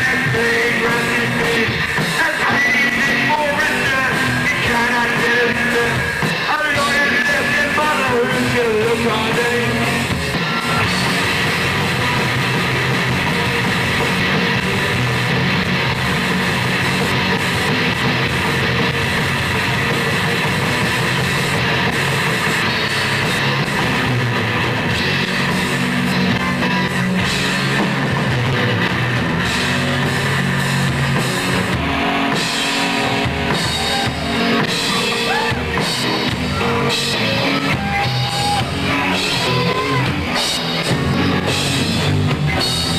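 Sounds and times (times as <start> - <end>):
drum kit: 0.0 - 42.9
guitars: 0.0 - 42.9.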